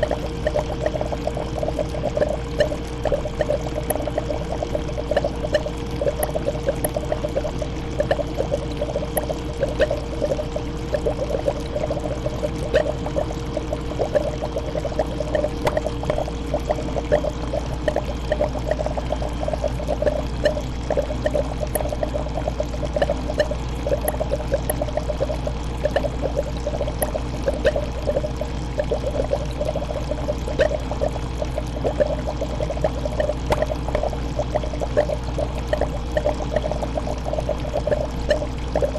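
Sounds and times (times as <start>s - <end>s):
faint constant tone: 0.0s - 38.9s
fish tank water bubbling: 0.0s - 38.9s
low steady hum: 0.0s - 38.9s.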